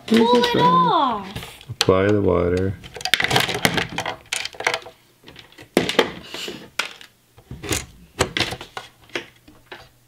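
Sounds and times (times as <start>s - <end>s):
plastic parts clicking and tapping: 1.6s - 9.9s.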